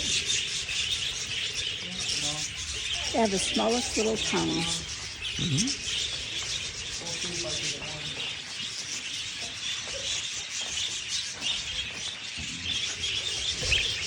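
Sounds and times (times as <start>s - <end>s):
flock of budgerigars chattering: 0.0s - 14.0s.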